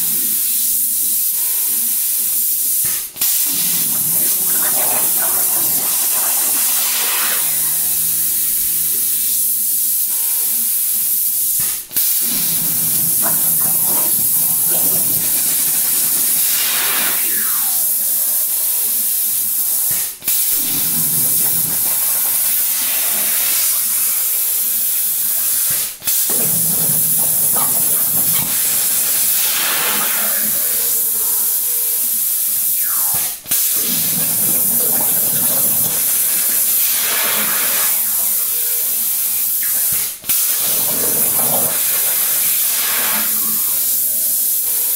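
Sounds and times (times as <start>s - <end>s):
plasma cutter arc hissing: 0.0s - 44.9s.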